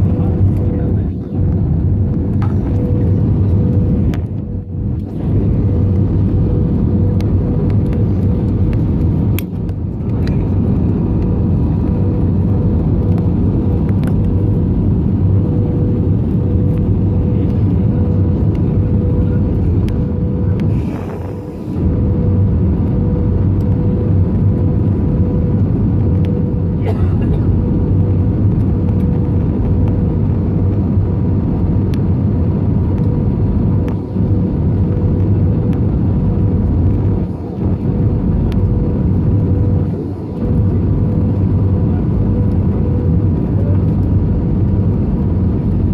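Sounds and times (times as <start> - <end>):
jet engine cabin noise: 0.0 - 45.9
steady hum: 0.0 - 45.9.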